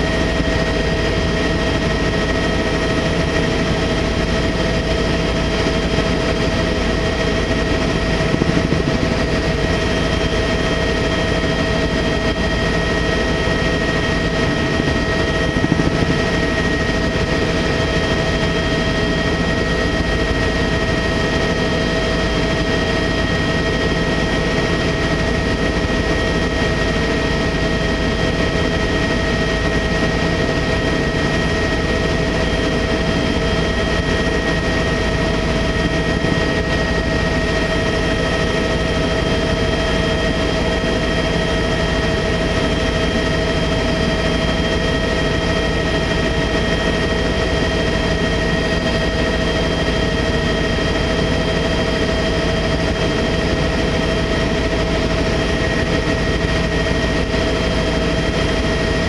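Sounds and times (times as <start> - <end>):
helicopter engine and rotor drone: 0.0 - 59.0
high turbine whine: 0.0 - 59.0.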